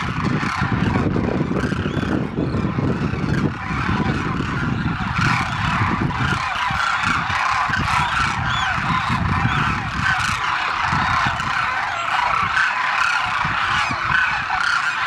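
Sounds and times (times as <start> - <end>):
flock of cranes calling: 0.0 - 15.0.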